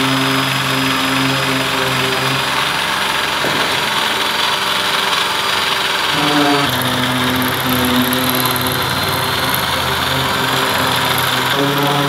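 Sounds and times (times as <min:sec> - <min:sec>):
electric shear cutting metal: 0:00.0 - 0:12.0.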